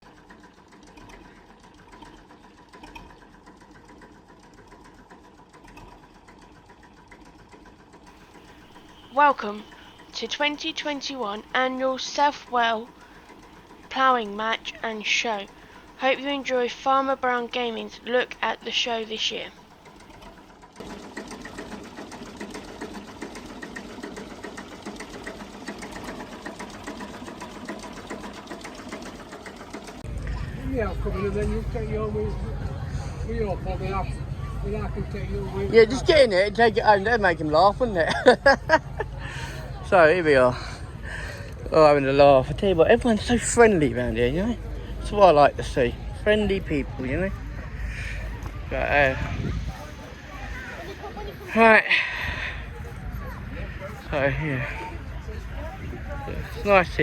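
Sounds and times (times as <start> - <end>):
faint engine clattering: 0.0 - 57.0.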